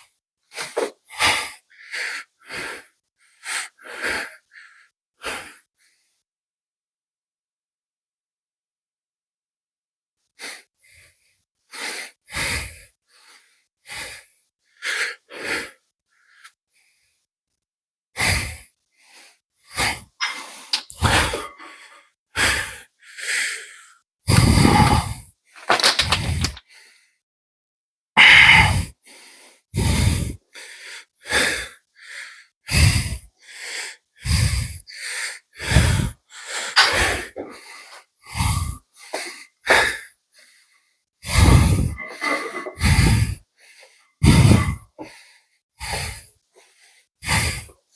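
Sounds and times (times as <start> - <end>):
man breathing hard: 0.5 - 6.2, 10.4 - 17.2, 18.2 - 27.2, 28.2 - 47.9.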